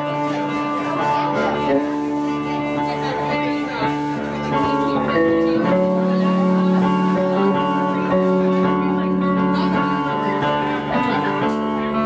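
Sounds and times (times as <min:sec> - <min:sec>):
guitar chords: 0:00.0 - 0:12.0
live band playing: 0:00.0 - 0:12.0.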